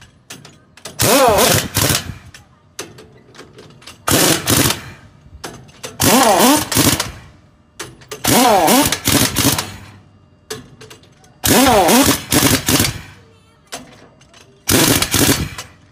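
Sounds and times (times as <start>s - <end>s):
pneumatic impact wrench hammering: 0.0s - 15.9s.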